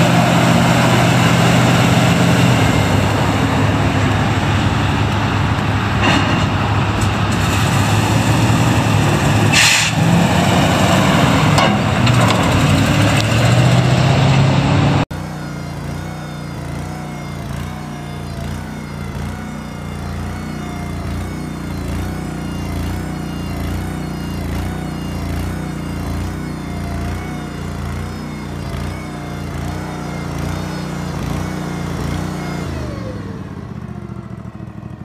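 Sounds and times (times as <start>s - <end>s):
small engine running: 0.0s - 35.0s
truck engine running loudly: 0.0s - 35.0s.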